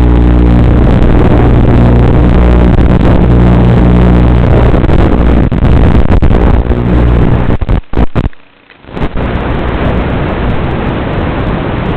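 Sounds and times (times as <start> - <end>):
steady hiss: 0.0 - 11.9.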